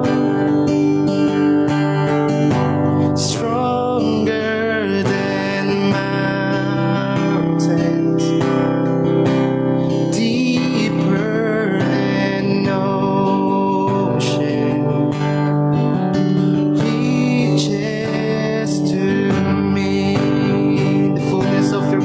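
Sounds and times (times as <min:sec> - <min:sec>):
man singing: 0:00.0 - 0:22.0
strummed acoustic guitar: 0:00.0 - 0:22.0.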